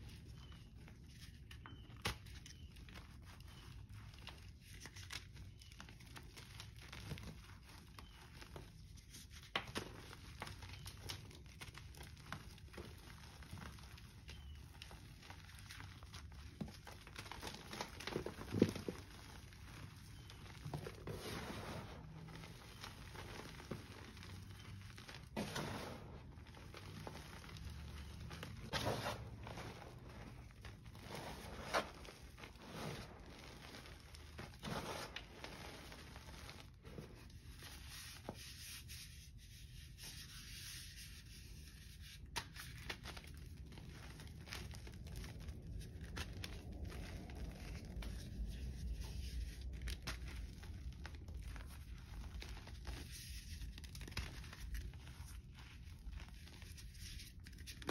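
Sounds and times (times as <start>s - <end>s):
chalk crumbling and crunching: 0.0s - 57.9s.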